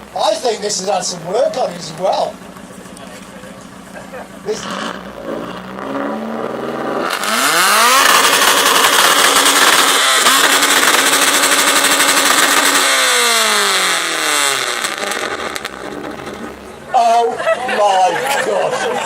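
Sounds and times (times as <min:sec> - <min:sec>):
car engine revving loud exhaust: 0:00.0 - 0:17.5.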